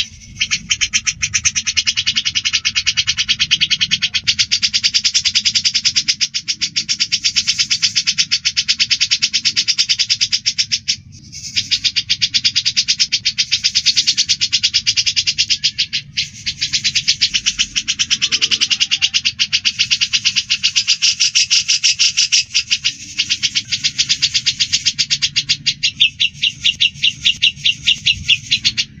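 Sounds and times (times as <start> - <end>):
birds chattering sharp chirps: 0.0 - 29.0.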